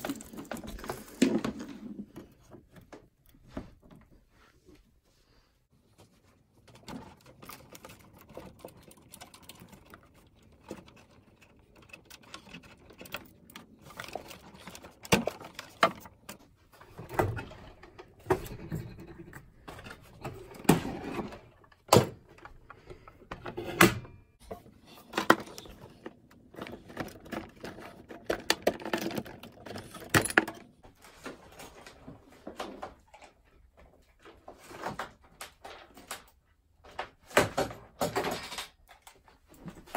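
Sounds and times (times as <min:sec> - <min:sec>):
cable plugs clicking and rattling: 0:00.0 - 0:03.4, 0:06.6 - 0:39.9.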